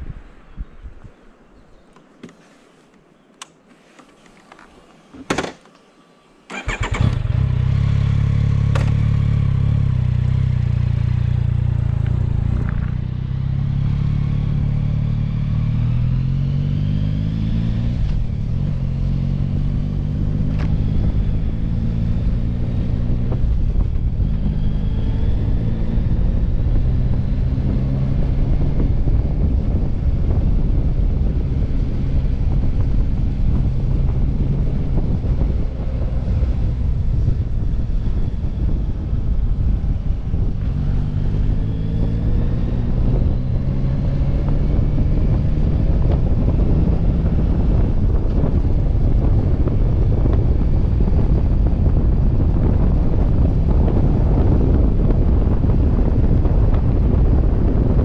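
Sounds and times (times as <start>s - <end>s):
motorcycle engine starting and riding: 6.4s - 58.0s.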